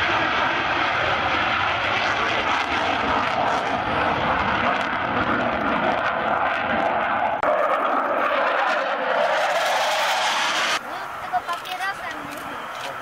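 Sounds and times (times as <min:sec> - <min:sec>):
loud jet engine noise: 0:00.0 - 0:13.0.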